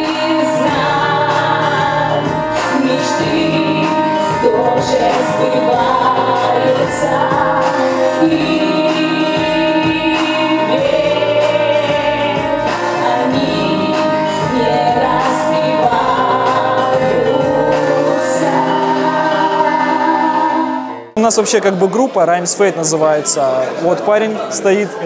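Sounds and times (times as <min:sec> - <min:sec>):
woman singing: 0:00.0 - 0:21.0
music backing track: 0:00.0 - 0:22.8.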